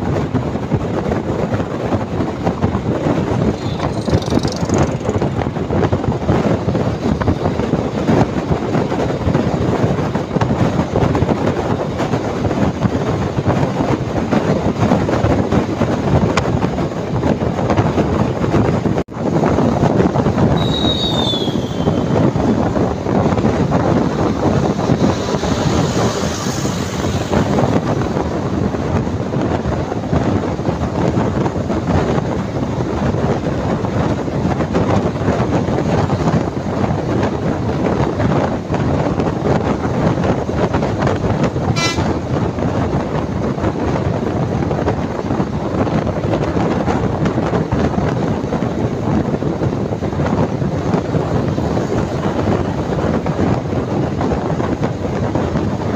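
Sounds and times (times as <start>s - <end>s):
wind and road noise: 0.0s - 55.9s.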